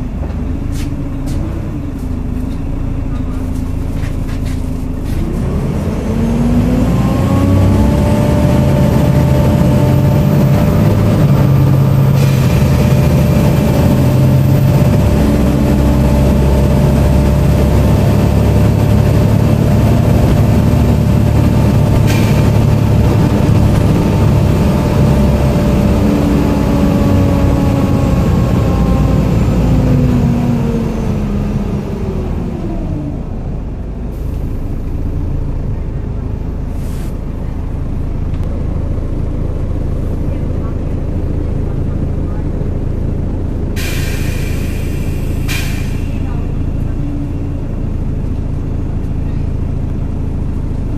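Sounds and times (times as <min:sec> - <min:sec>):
bus engine and drivetrain whine: 0:00.0 - 0:50.9.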